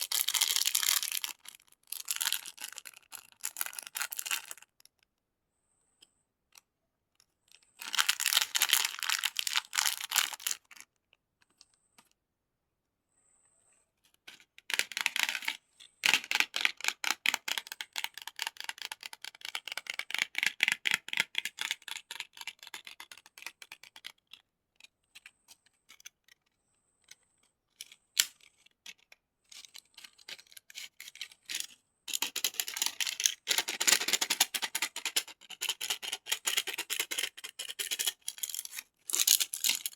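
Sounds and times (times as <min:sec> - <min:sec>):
candies clicking and crinkling: 0:00.0 - 0:05.0, 0:07.5 - 0:11.7, 0:14.3 - 0:26.4, 0:27.1 - 0:39.9.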